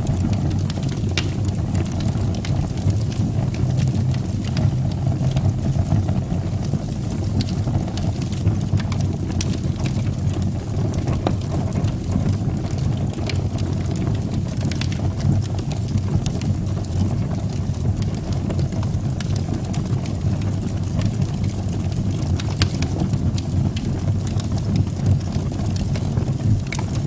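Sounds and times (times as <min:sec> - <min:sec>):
fire crackling and popping: 0:00.0 - 0:27.0
fire roaring: 0:00.0 - 0:27.0.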